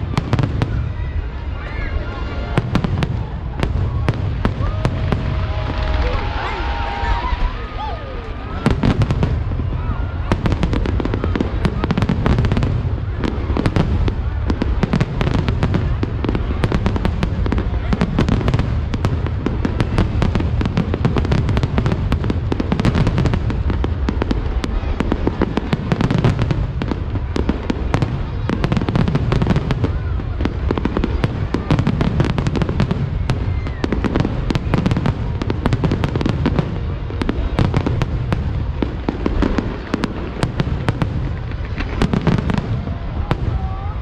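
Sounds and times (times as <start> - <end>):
fireworks cracking: 0.0 - 44.0.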